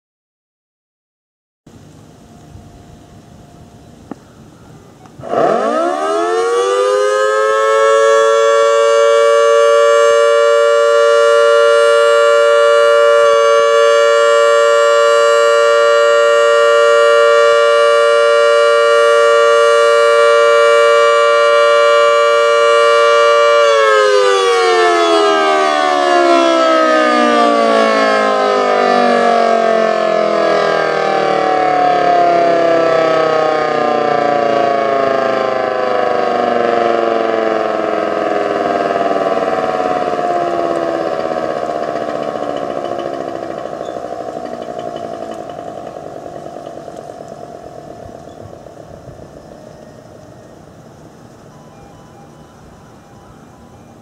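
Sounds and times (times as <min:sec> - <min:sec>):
two-tone fire siren: 0:02.2 - 0:54.0.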